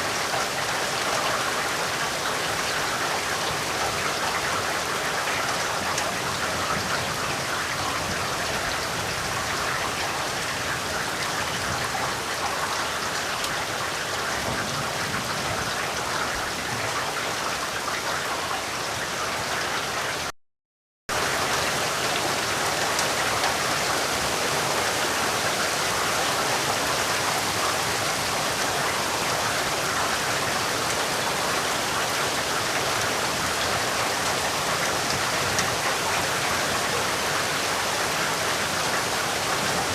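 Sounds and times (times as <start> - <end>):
steady rain falling: 0.0 - 20.3, 21.1 - 39.9.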